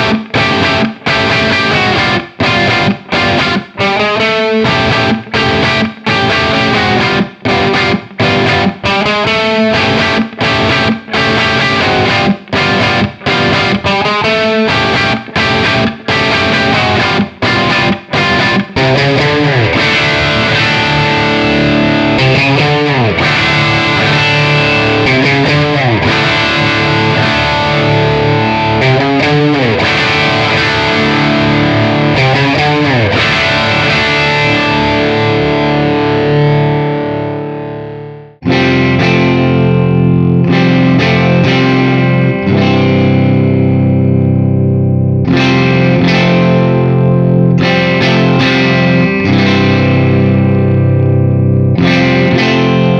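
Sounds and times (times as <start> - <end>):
overdriven electric guitar: 0.0 - 52.9.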